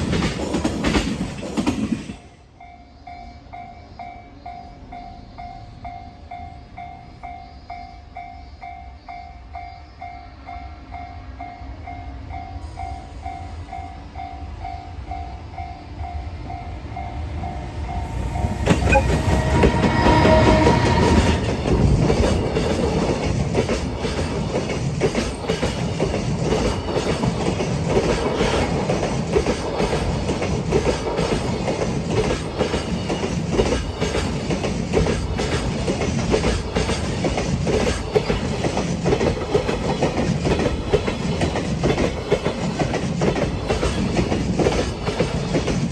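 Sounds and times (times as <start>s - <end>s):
train wheels clattering on rails: 0.0s - 7.9s, 12.4s - 45.9s.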